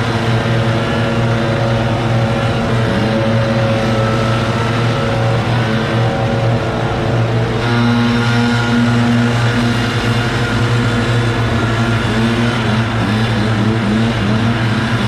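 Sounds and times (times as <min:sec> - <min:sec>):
engine at even pitch: 0:00.0 - 0:15.0
engine with wavering pitch: 0:00.0 - 0:15.0.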